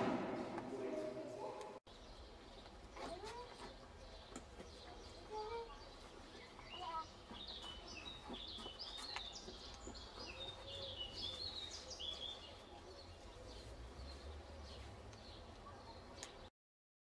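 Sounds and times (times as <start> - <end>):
songbirds singing: 1.9 - 16.5.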